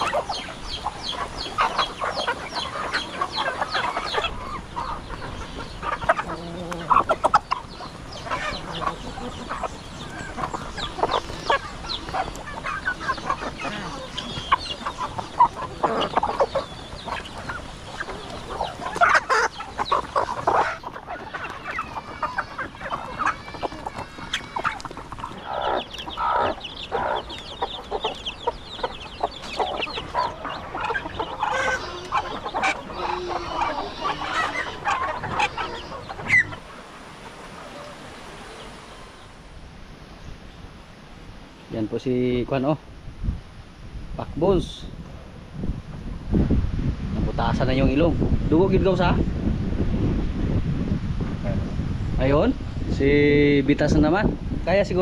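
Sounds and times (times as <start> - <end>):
chickens clucking: 0.0 - 43.4, 44.1 - 55.0.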